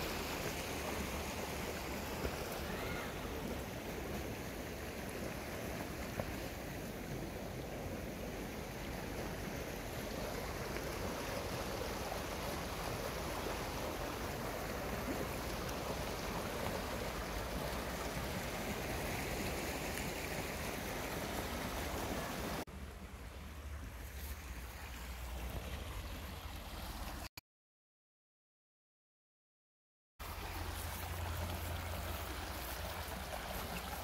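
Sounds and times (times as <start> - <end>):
low water rumble: 0.0 - 27.3, 30.2 - 34.0
stream water rushing over weir: 0.0 - 27.3, 30.2 - 34.0.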